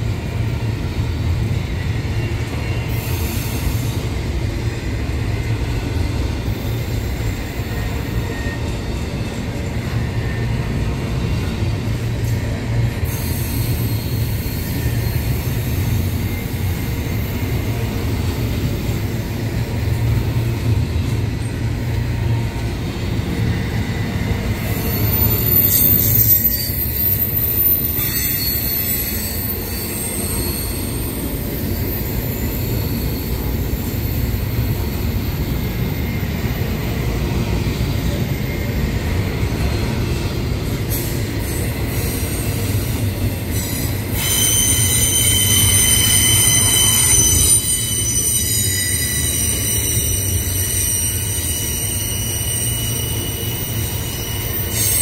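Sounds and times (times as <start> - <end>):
freight train rumbling: 0.0 - 55.0
train wheel squeal: 0.0 - 55.0.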